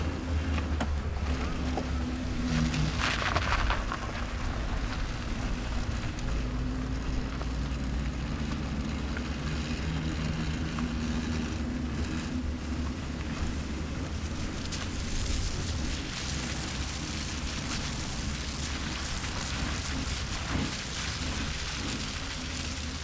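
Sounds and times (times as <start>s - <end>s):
engine running at low revs: 0.0s - 23.0s.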